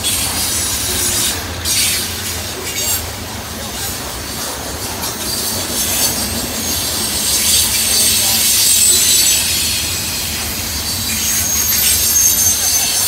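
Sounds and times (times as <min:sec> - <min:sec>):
low rumble of train cars: 0:00.0 - 0:13.0
train wheels squealing: 0:00.0 - 0:13.0.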